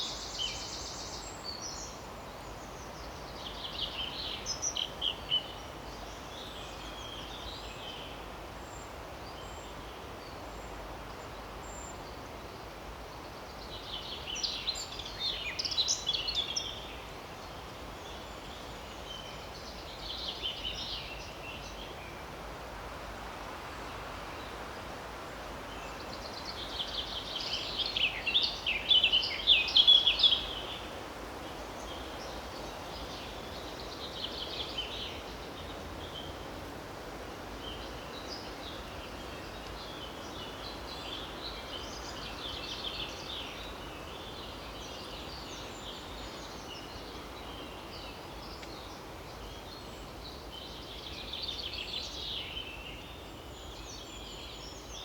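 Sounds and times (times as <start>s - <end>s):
wind hissing in treetops: 0.0s - 55.0s.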